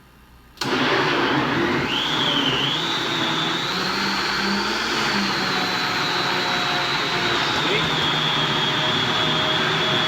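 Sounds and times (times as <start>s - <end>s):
blender running: 0.6s - 10.0s.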